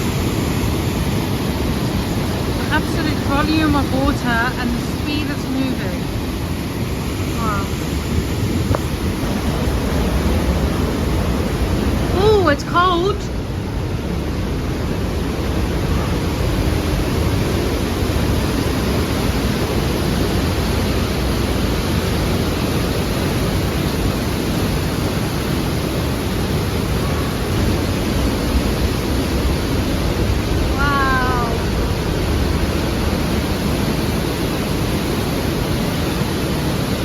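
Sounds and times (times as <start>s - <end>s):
river rushing through gorge: 0.0s - 37.0s.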